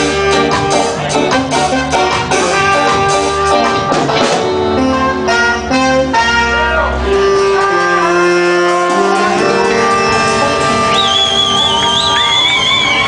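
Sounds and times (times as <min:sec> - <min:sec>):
reggae band playing: 0:00.0 - 0:13.0
saxophone long notes: 0:00.0 - 0:13.0
trumpet long notes: 0:00.0 - 0:13.0.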